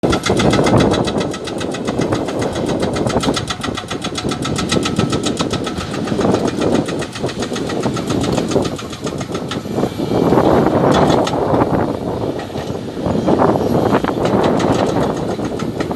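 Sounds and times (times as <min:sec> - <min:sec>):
diesel engine running: 0:00.0 - 0:15.9
hydraulic breaker hammering rock: 0:00.0 - 0:15.9.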